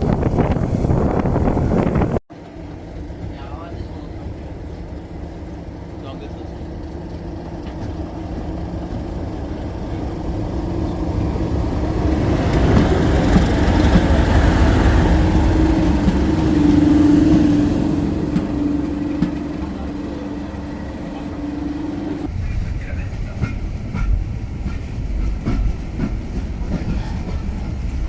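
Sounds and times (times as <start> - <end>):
diesel locomotive engine working hard: 0.0 - 28.0.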